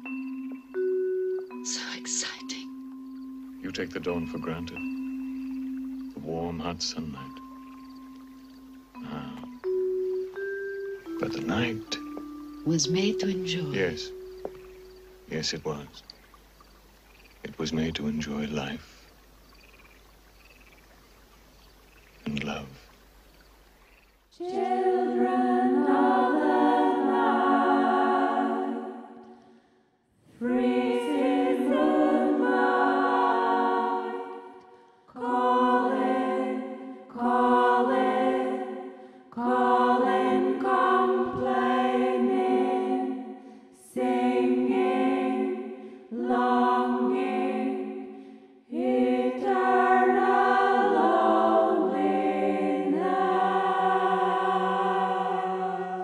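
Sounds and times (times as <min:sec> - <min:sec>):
a cappella choir singing: 0:00.0 - 0:02.8, 0:03.5 - 0:15.8, 0:24.3 - 0:56.0.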